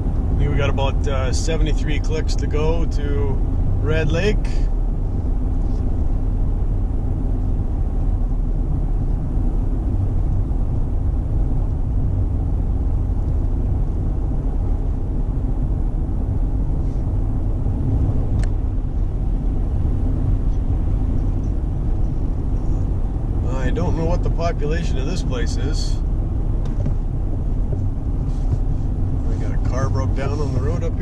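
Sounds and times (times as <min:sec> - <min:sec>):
pickup engine and tyres rumbling: 0:00.0 - 0:31.0.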